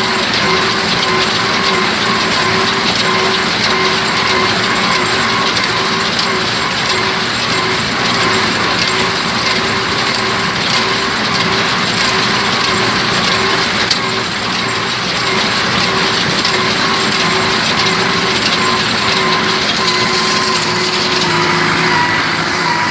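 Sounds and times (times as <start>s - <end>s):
tractor and hay baler running: 0.0s - 22.9s.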